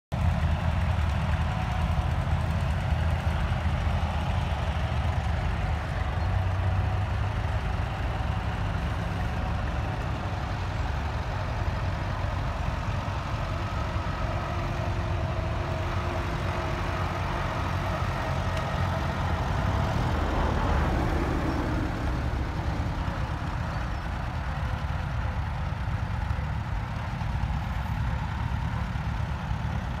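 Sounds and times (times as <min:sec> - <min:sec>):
tractor engines rumbling: 0:00.1 - 0:30.0.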